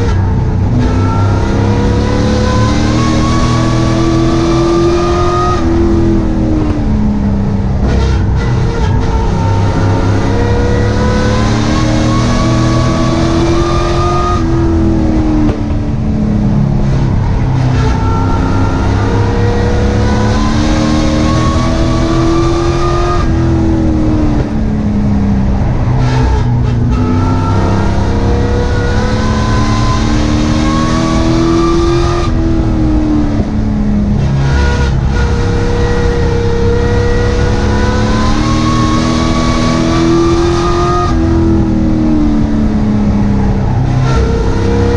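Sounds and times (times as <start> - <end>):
race engine revving: 0.0 - 44.9.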